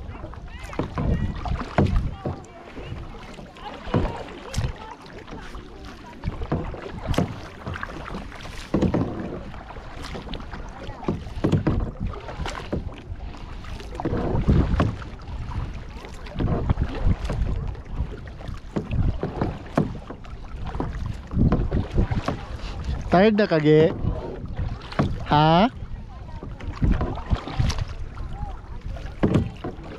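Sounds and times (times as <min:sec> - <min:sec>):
wind on microphone: 0:00.0 - 0:08.1, 0:08.9 - 0:23.2, 0:23.8 - 0:29.9
paddle splashing in water: 0:00.0 - 0:29.9.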